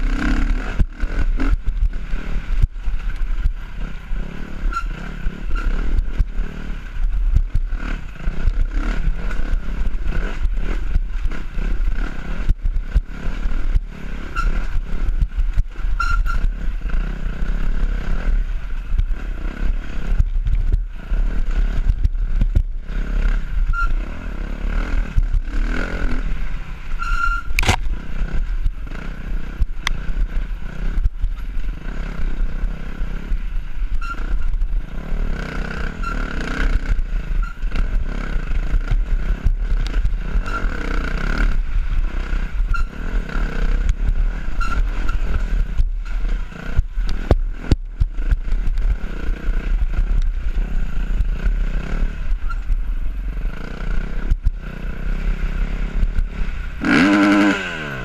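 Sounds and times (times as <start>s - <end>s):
bike rattling over rough ground: 0.0s - 57.8s
dirt bike engine running: 0.0s - 58.0s.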